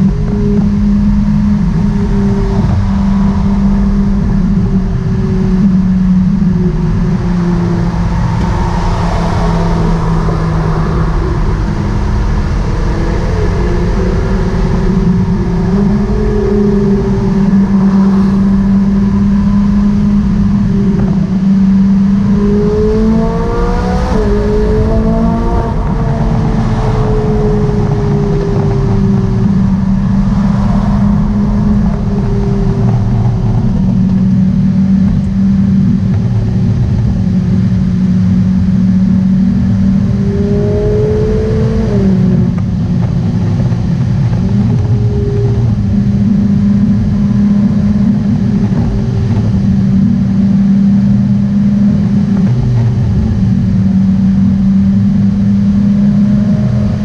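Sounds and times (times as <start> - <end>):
car engine droning: 0.0 - 57.0
tyre and road noise: 0.0 - 57.0.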